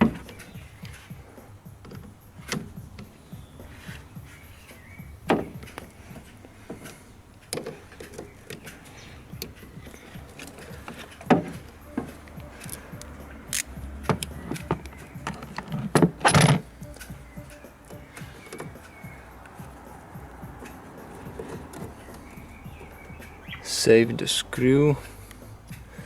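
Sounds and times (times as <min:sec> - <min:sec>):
sharp knocks: 0:00.0 - 0:07.0, 0:07.6 - 0:23.6
metal parts clicking and knocking: 0:00.0 - 0:22.3
light ticks: 0:00.0 - 0:26.0.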